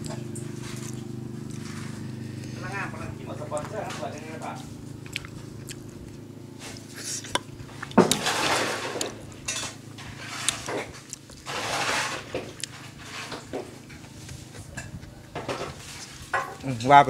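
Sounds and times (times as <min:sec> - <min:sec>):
food rustling and scraping on plate: 0:00.0 - 0:02.8, 0:03.4 - 0:16.8.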